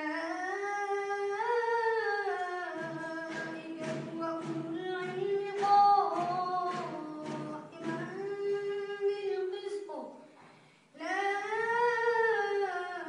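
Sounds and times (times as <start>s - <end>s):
boy chanting melodically: 0.0s - 13.0s.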